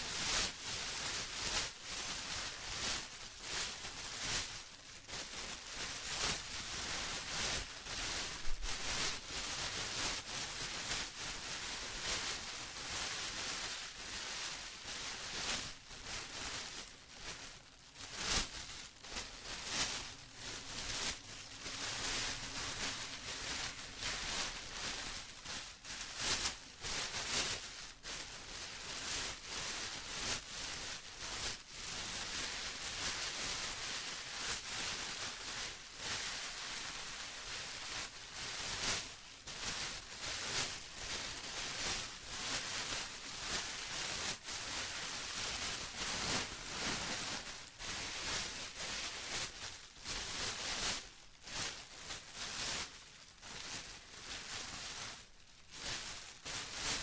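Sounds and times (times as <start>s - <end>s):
plastic rustling and crinkling: 0.0s - 57.0s.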